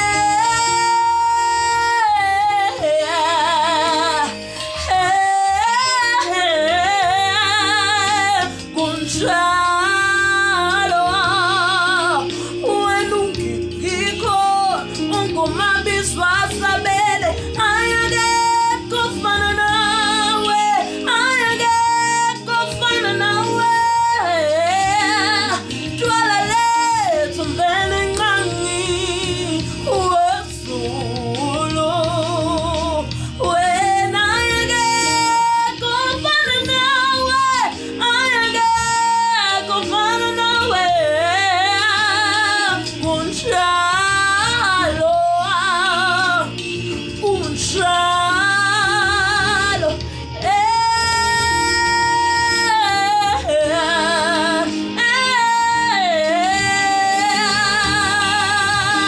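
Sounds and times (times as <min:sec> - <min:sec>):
instrumental backing: 0:00.0 - 0:59.0
woman singing gospel song: 0:00.0 - 0:59.0.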